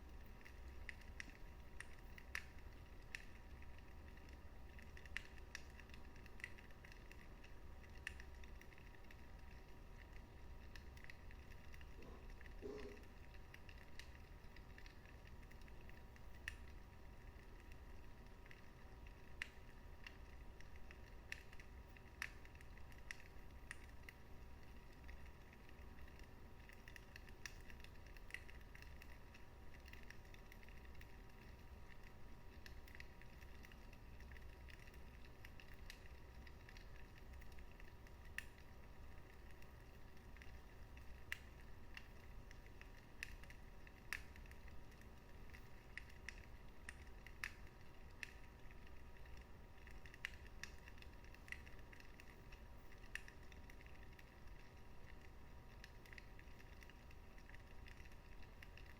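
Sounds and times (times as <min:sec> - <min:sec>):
fire pops and snaps: 0:00.0 - 0:58.9
low steady rumble: 0:00.0 - 0:58.9
wood fire crackling: 0:00.0 - 0:58.9.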